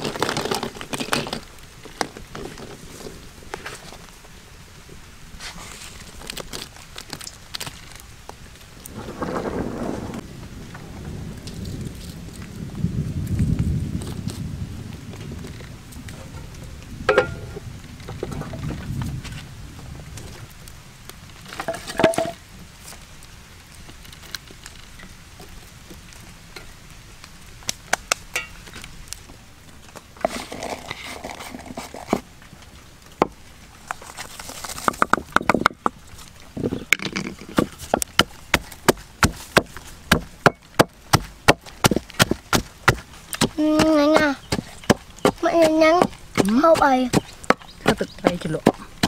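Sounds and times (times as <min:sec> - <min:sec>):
rustling noise: 0:00.0 - 0:49.0.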